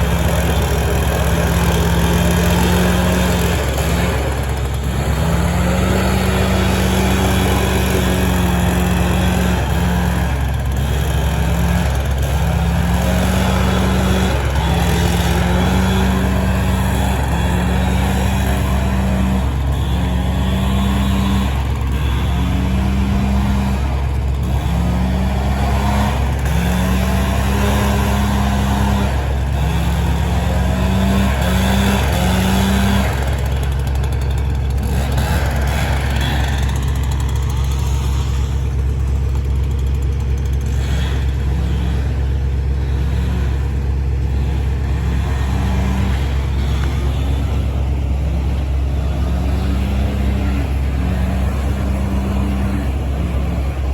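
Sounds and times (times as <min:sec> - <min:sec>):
large engine running: 0:00.0 - 0:53.9.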